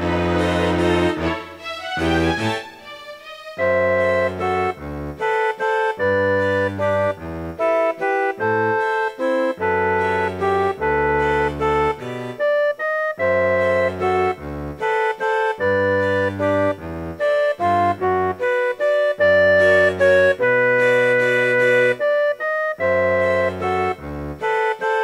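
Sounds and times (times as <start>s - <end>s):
organ-like keyboard music: 0.0s - 25.0s.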